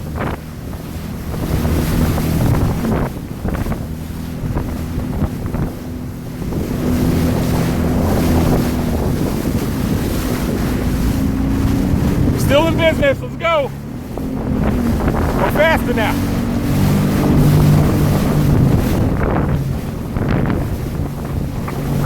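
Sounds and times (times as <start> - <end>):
jet ski engine running: 0.0 - 22.0
water rushing: 0.0 - 22.0
wind buffeting microphone: 0.0 - 22.0.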